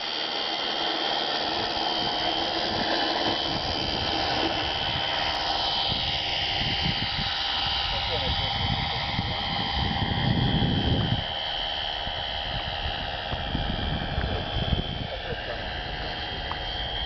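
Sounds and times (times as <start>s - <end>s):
model airplane motor whining: 0.0s - 17.0s.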